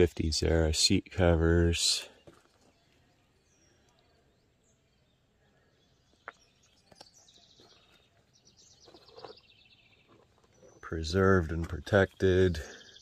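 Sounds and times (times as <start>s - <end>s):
small birds trilling: 0.0s - 13.0s.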